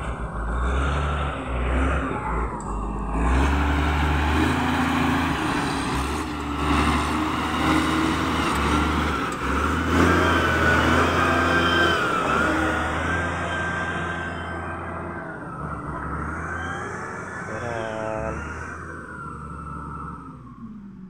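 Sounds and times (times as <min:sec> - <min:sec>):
thin wavering whine: 0:00.0 - 0:06.6, 0:10.2 - 0:21.0
wheel loader diesel engine: 0:00.0 - 0:21.0.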